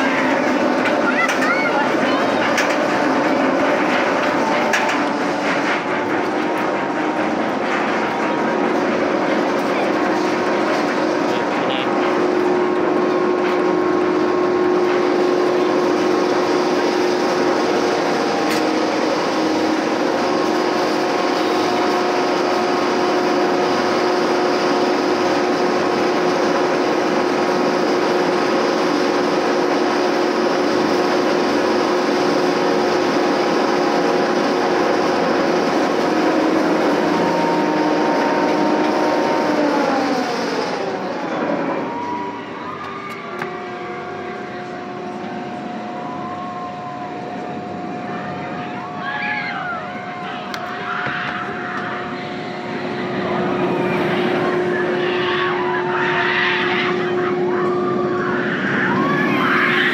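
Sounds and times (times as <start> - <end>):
roller coaster chain lift drone: 0.0 - 59.9.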